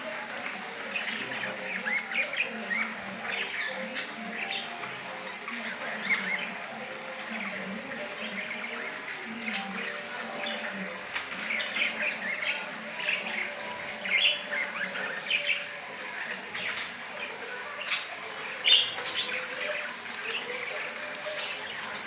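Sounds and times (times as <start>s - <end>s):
budgerigars chirping: 0.1s - 22.0s.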